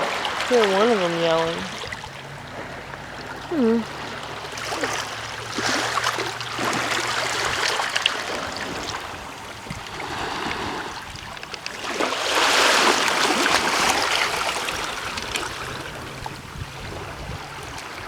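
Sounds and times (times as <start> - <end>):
water lapping at shoreline: 0.0 - 18.0.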